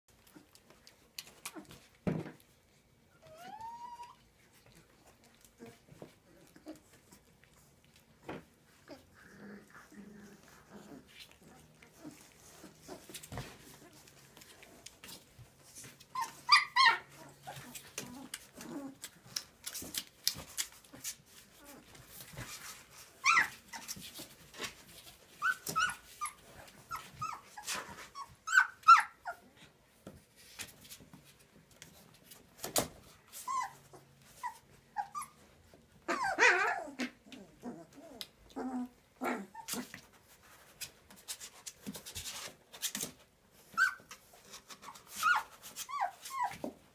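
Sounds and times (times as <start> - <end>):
puppies scuffling on bedding: 0.1 - 36.7, 38.6 - 46.9
puppies whining and squeaking: 0.2 - 30.9, 32.0 - 46.9.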